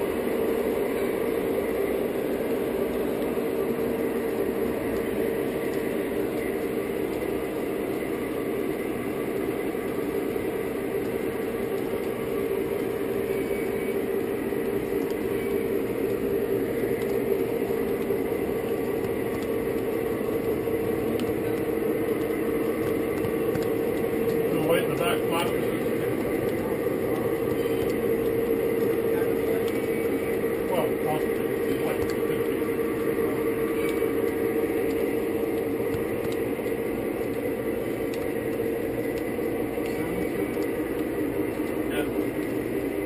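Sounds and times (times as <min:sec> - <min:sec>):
model train rolling rumble and hum: 0:00.0 - 0:43.0.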